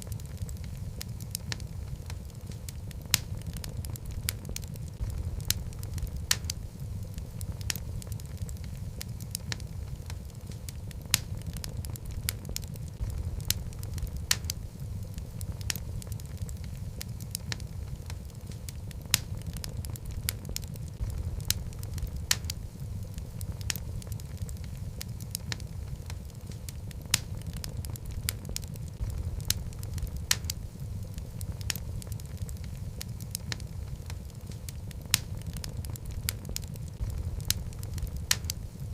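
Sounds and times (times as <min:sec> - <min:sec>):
flames rumbling in fireplace: 0:00.0 - 0:38.9
wood popping and crackling: 0:00.0 - 0:38.9.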